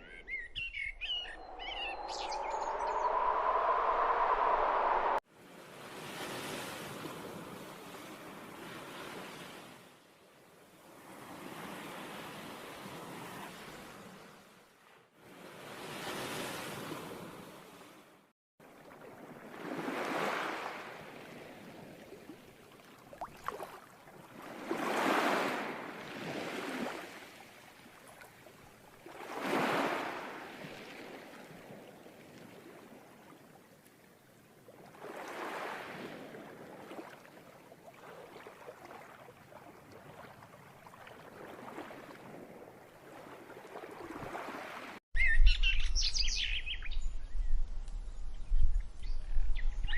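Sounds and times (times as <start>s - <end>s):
ocean waves washing ashore: 1.3s - 10.0s, 10.8s - 33.7s, 34.6s - 45.0s.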